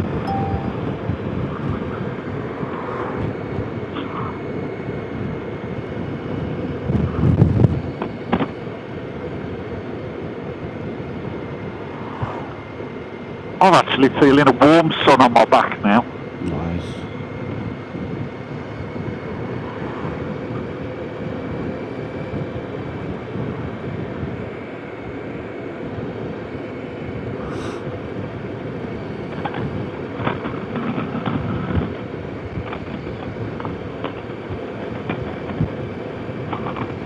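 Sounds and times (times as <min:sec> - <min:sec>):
motorcycle road noise: 0:00.0 - 0:37.0.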